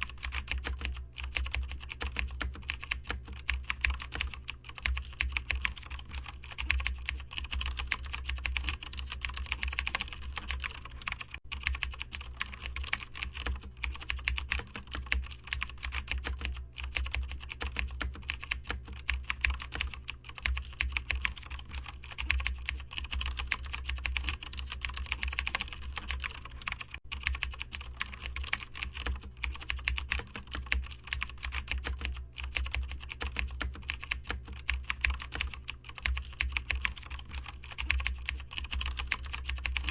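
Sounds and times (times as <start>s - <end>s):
keyboard typing: 0.0s - 39.9s
steady low hum: 0.0s - 39.9s.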